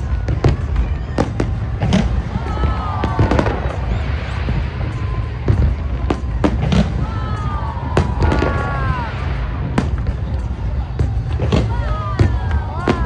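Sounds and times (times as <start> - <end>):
falling whistling tones: 0.0 - 13.0
fireworks bangs: 0.0 - 13.0.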